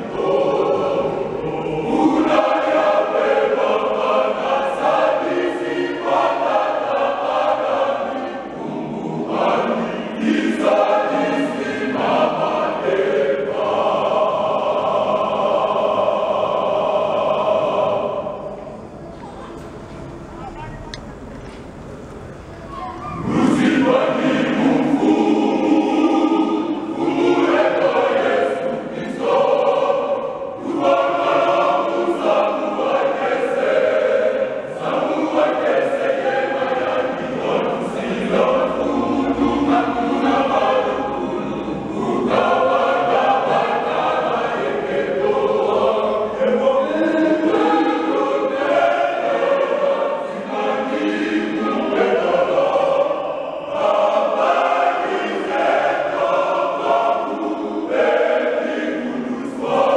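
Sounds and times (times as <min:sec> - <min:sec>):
male choir singing: 0:00.0 - 0:18.9, 0:23.1 - 0:59.9.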